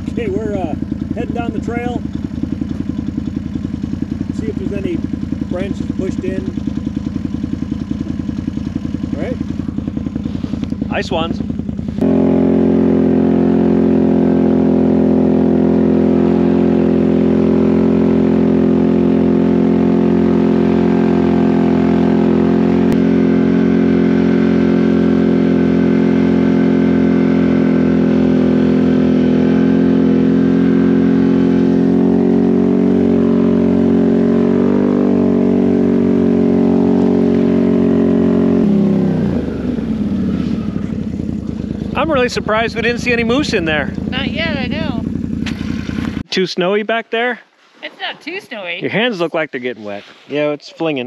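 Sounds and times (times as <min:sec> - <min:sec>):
atv engine droning: 0:00.0 - 0:51.0.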